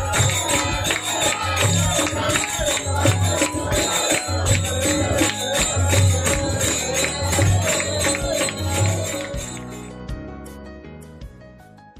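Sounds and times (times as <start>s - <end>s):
handclaps: 0.0s - 9.9s
jingling percussion: 0.0s - 10.2s
devotional song: 0.0s - 11.0s.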